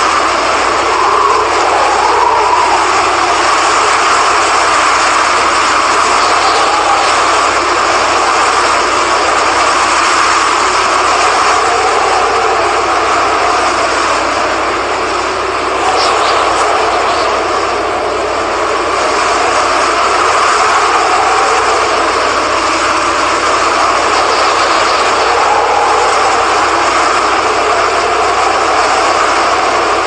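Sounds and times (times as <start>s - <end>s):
strong wind roaring: 0.0s - 30.0s.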